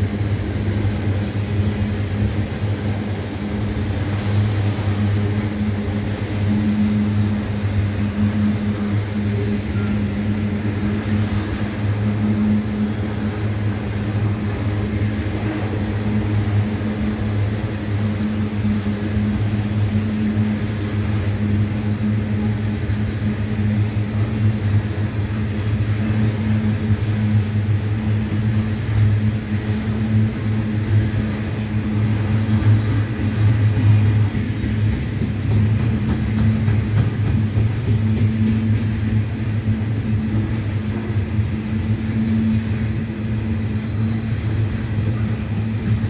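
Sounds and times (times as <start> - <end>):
freight train wagons rumbling: 0.0 - 46.0.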